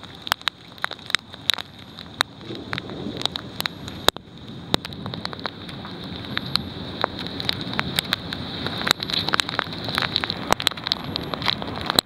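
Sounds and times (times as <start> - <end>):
hailstones striking hard surfaces: 0.0 - 12.0
heavy rain hiss: 0.0 - 12.0.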